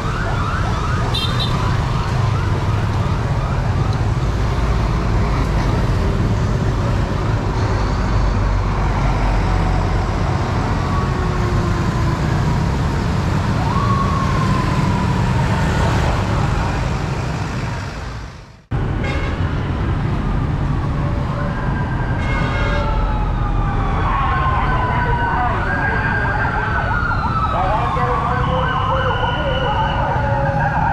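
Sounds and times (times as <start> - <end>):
sirens sliding downward: 0.0 - 18.9, 19.5 - 30.9
heavy street traffic rumble: 0.0 - 30.9
motorbike engines: 0.0 - 30.9.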